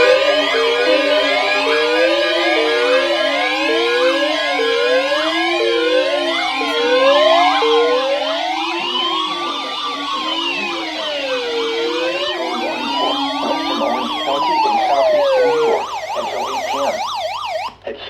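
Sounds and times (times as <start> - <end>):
siren wailing: 0.0 - 17.8
siren yelping: 0.0 - 17.8.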